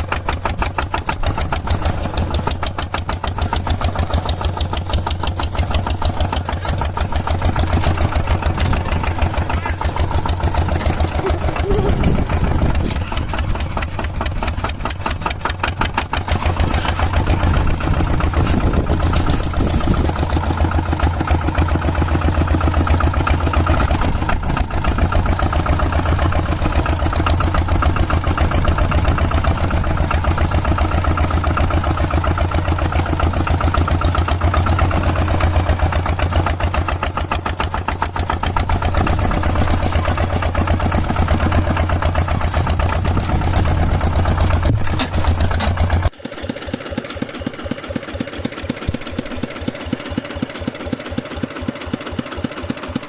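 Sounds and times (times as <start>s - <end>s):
small tractor engine running: 0.0s - 53.0s.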